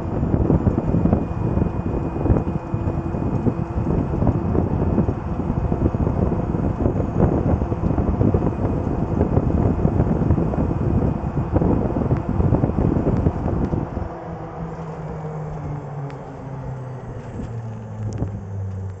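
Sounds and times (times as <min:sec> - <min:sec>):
golf cart low hum: 0:00.0 - 0:19.0
wind buffeting microphone: 0:00.0 - 0:19.0.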